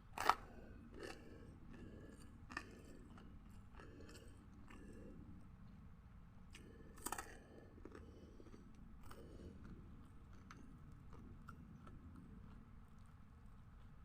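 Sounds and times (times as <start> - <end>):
chewing with wet mouth clicks: 0.2 - 14.0.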